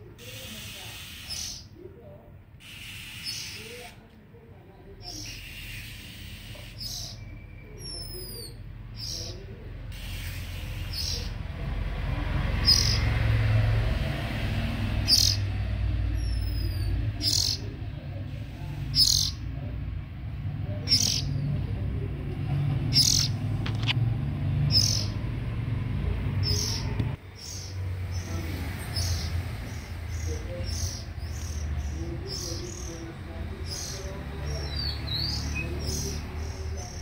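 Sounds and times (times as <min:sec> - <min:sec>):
small birds cheeping: 0:00.0 - 0:01.9, 0:02.5 - 0:04.1, 0:04.9 - 0:23.5, 0:24.2 - 0:37.0.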